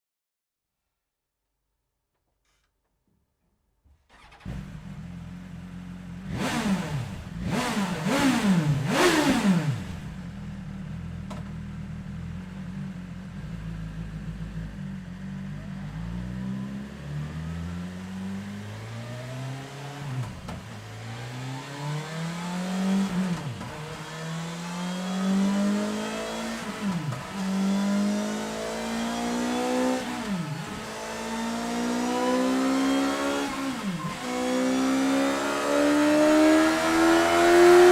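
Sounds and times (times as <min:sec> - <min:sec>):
motorcycle engine revving: 0:04.1 - 0:37.9.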